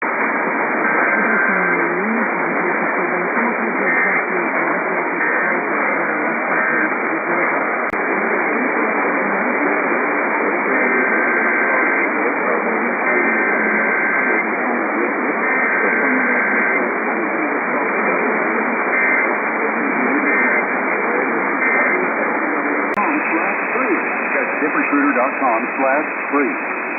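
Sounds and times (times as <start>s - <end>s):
radio static hiss: 0.0s - 26.9s.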